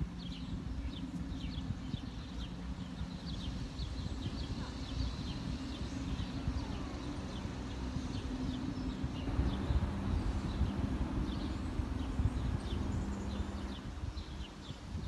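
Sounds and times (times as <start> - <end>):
low rumble with faint hum: 0.0 - 15.0
small birds chirping: 0.0 - 15.0.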